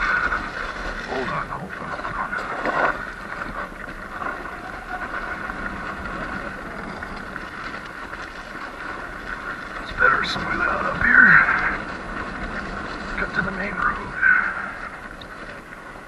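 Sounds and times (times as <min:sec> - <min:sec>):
tyre and road noise: 0:00.0 - 0:16.0
wind on microphone: 0:00.0 - 0:16.0.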